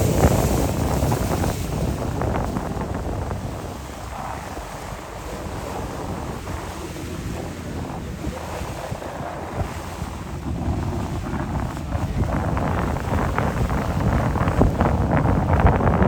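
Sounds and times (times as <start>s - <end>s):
steady low rumble: 0.0s - 16.0s
water rushing past boat hull: 0.0s - 16.0s
wind buffeting microphone: 0.0s - 16.0s.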